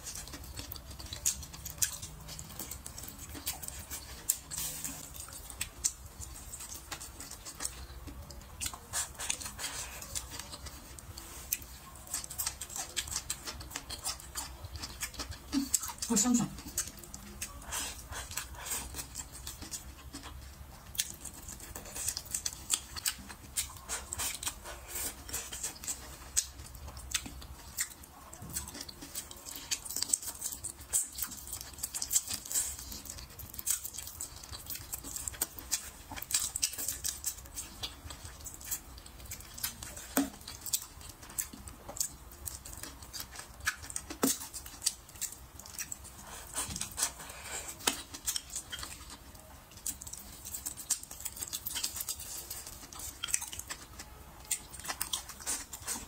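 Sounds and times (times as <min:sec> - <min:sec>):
chewing with wet smacks: 0:00.0 - 0:56.0.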